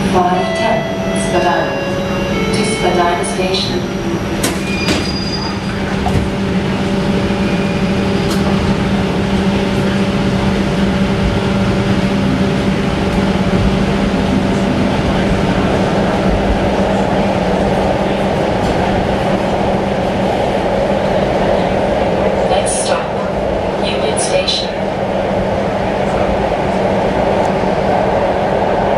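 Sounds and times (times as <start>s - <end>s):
streetcar rolling rumble: 0.0s - 28.9s.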